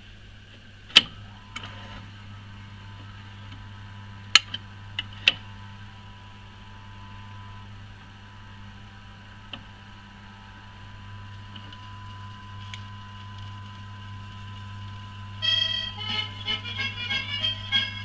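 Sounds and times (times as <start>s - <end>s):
steady low hum: 0.0s - 18.0s
record changer mechanical clicks: 0.5s - 18.0s.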